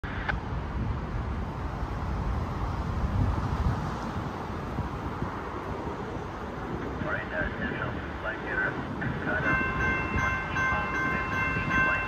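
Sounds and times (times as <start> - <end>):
road traffic: 0.0 - 12.0
wind on microphone: 0.0 - 12.0.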